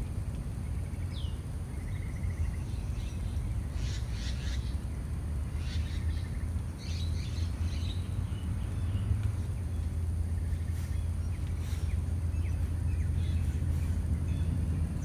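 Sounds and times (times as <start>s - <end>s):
steady low rumble: 0.0s - 15.0s
small birds chirping: 0.5s - 15.0s.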